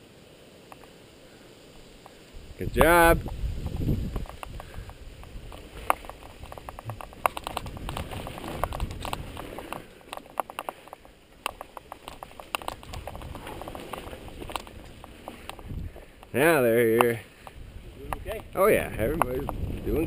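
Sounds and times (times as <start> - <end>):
bike rattling over dirt trail: 2.7 - 20.0.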